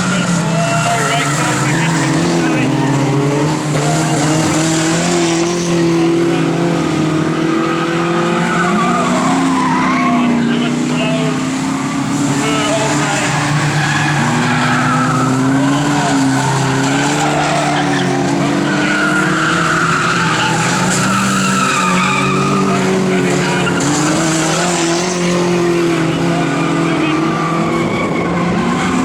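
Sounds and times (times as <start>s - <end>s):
racing car engines running hard: 0.0s - 29.0s.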